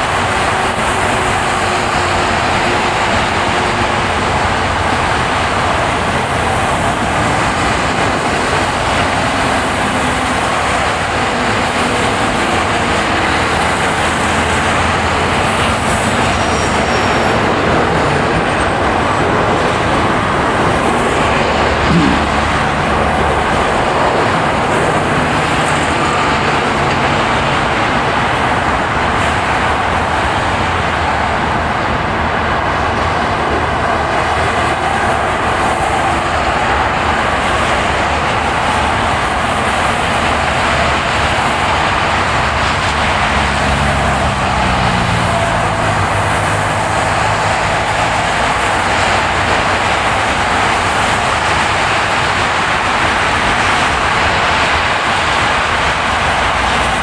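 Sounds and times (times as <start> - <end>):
car tyres on snowy road: 0.0 - 57.0.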